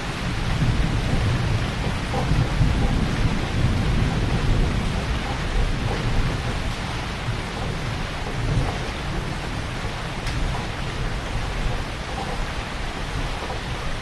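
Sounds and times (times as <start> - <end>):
heavy rain falling: 0.0 - 14.0
low rumble of thunder: 0.0 - 14.0.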